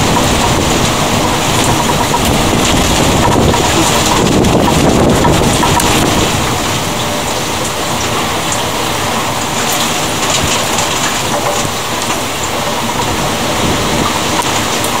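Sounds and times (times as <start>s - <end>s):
raindrop taps: 0.0s - 8.6s, 9.4s - 15.0s
rain hissing: 0.0s - 15.0s.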